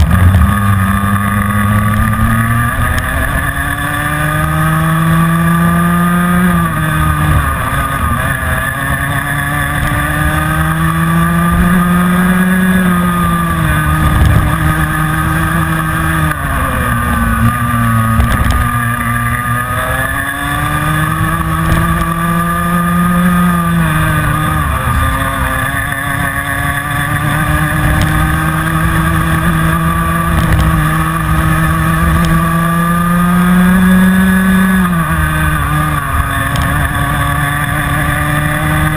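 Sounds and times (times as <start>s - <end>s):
kart engine at racing speed: 0.0s - 38.9s.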